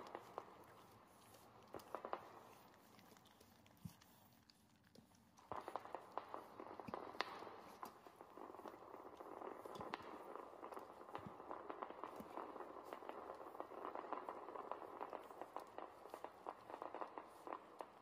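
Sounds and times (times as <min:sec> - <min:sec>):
low rustle: 0:00.0 - 0:18.0
puppies lapping and chewing: 0:00.0 - 0:18.0.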